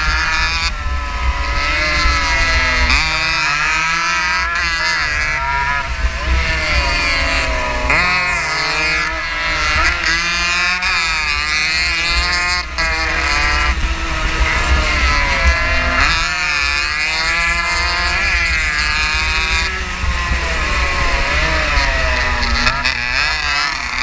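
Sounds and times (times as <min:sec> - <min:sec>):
racing motorcycle engine high revs: 0:00.0 - 0:24.0
wind buffeting microphone: 0:00.0 - 0:24.0.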